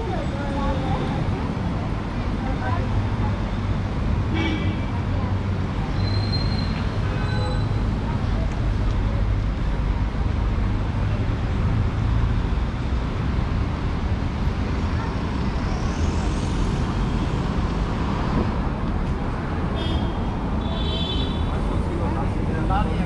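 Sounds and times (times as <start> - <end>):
cars passing in steady rumble: 0.0 - 23.0.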